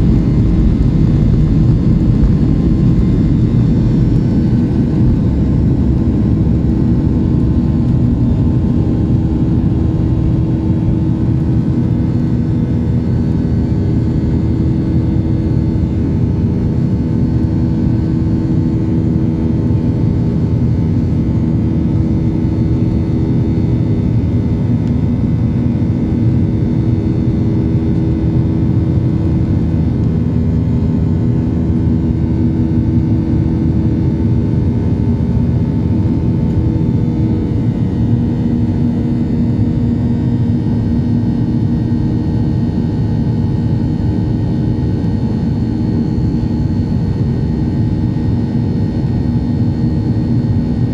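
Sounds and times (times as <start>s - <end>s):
jet cabin engine rumble: 0.0s - 50.9s.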